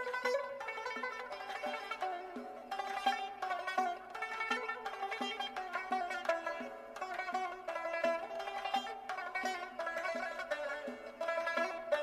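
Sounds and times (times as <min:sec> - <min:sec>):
instrumental music with struck notes: 0:00.0 - 0:12.0.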